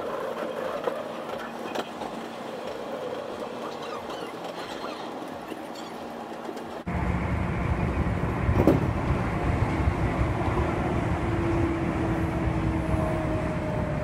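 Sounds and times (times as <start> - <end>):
passing train rush: 0.0 - 14.0
train wheels rumbling on rail: 0.0 - 14.0.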